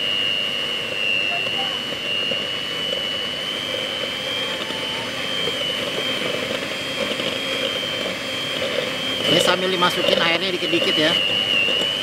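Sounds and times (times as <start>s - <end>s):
beaters churning dough: 0.0s - 12.0s
electric hand mixer whining: 0.0s - 12.0s.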